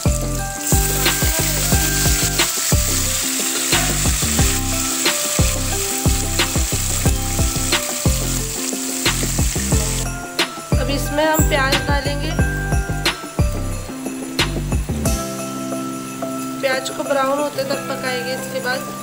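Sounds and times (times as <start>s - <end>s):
background music with beat: 0.0s - 16.3s
spices sizzling in hot oil: 0.0s - 19.0s.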